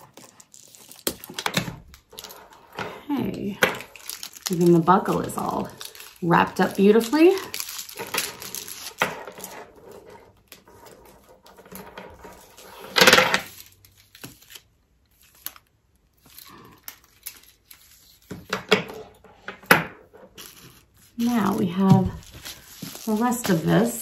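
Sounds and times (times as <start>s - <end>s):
packaging rustling: 0.0s - 18.5s, 20.3s - 24.0s.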